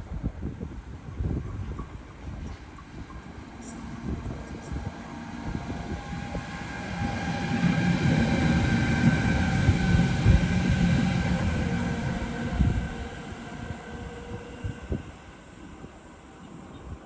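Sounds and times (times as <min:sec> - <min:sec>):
train rumble: 0:00.0 - 0:17.0
steady whining tone: 0:02.2 - 0:17.0.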